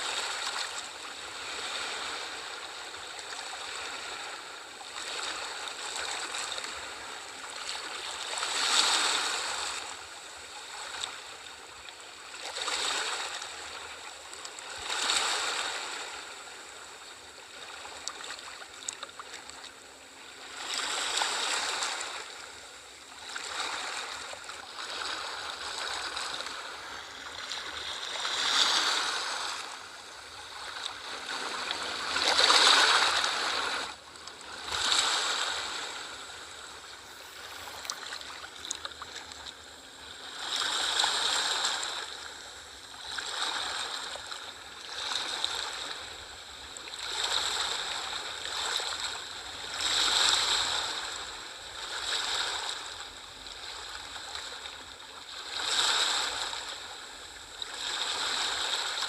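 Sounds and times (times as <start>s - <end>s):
sea waves lapping at shore: 0.0s - 59.0s.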